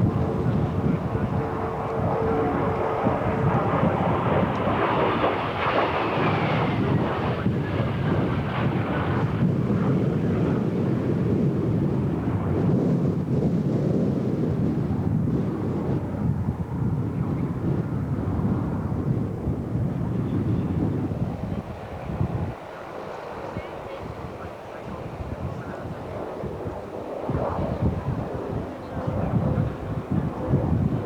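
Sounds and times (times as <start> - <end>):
light aircraft engine flying past: 0.0 - 31.0
wind noise on microphone: 0.0 - 31.0.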